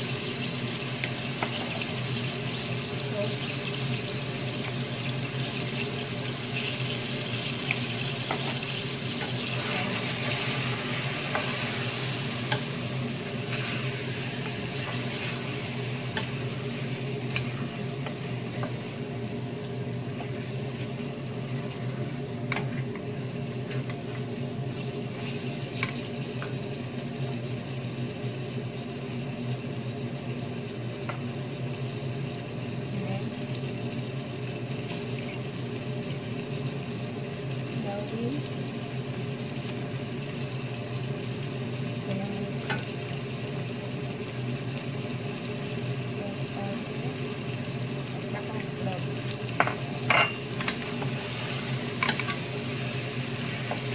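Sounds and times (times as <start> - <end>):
meat sizzling in a pot: 0.0 - 53.9.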